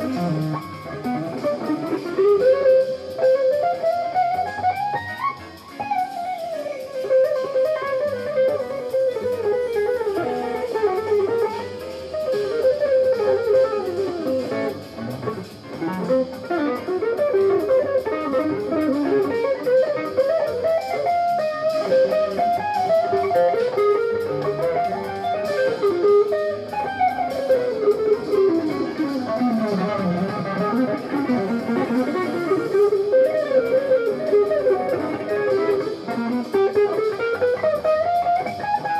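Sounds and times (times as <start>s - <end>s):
jazz fusion electric guitar runs: 0.0s - 38.9s.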